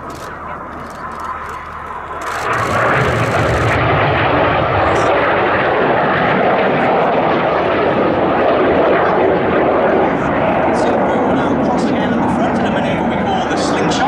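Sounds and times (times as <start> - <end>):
jet roar in low flypast: 0.0 - 14.0.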